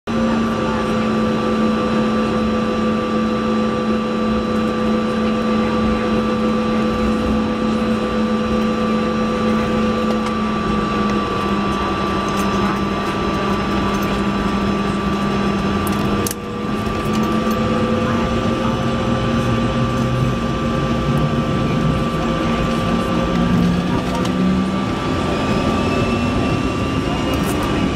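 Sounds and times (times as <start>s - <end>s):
jet engine whine: 0.1s - 27.9s
rushing cabin hum: 0.1s - 27.9s.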